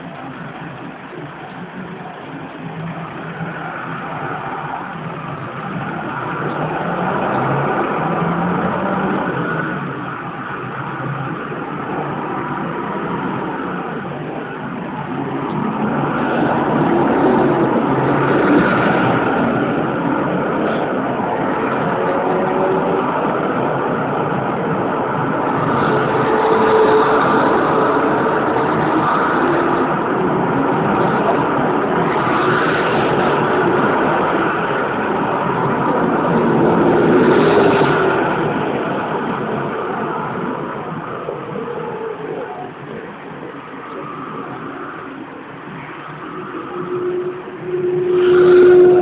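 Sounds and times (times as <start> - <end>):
busy street traffic: 0.0 - 49.0
cars passing: 0.0 - 49.0
engines accelerating: 0.0 - 49.0.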